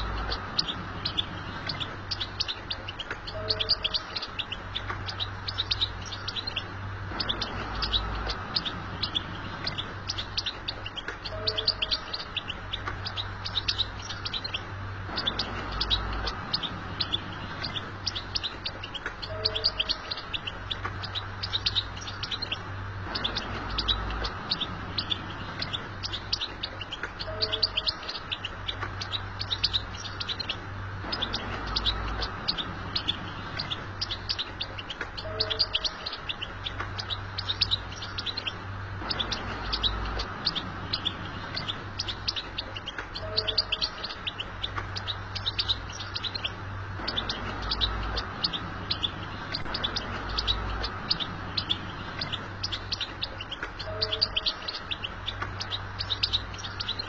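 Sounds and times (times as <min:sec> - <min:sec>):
goldfinch twittering song: 0:00.0 - 0:57.0
steady low hum: 0:00.0 - 0:57.0.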